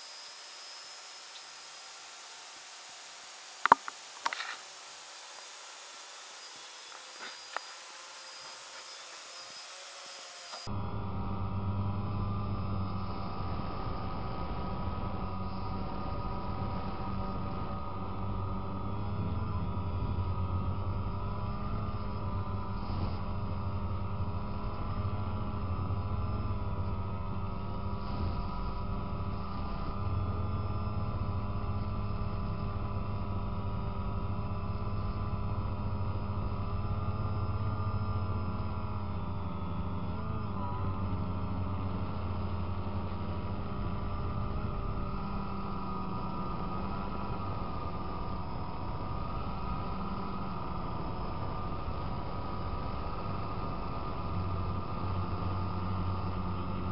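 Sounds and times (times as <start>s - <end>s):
drone propellers humming: 0.0s - 56.9s.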